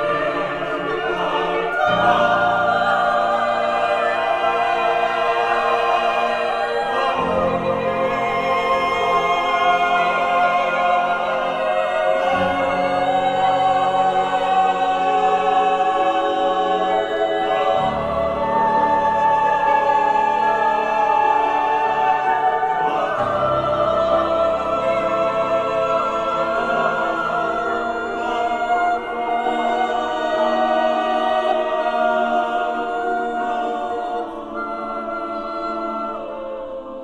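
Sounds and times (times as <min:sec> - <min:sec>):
choir singing held chords: 0:00.0 - 0:37.0.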